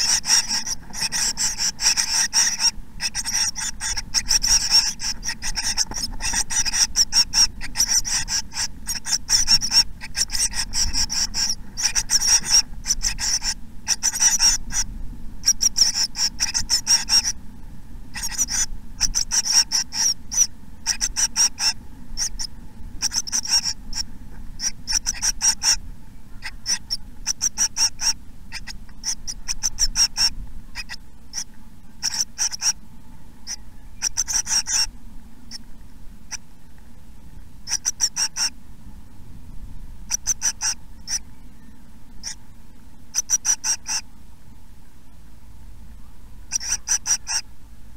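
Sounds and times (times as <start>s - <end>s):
nestlings begging calls: 0.0s - 17.4s, 18.0s - 32.8s, 33.4s - 36.5s, 37.3s - 38.6s, 40.0s - 44.1s, 46.5s - 47.5s.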